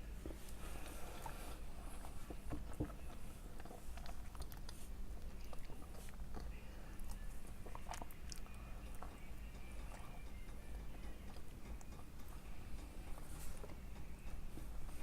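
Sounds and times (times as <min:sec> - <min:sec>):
person chewing with wet smacks: 0:00.2 - 0:15.0.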